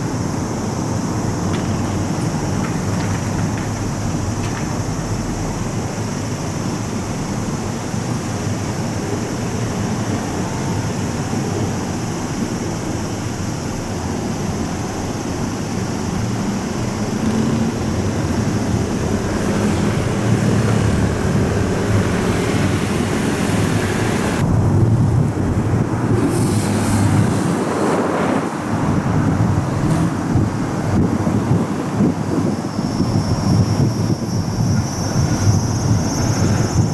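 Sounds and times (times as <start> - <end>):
rumble of passing vehicles: 0.0 - 36.9
wind buffeting microphone: 0.0 - 36.9.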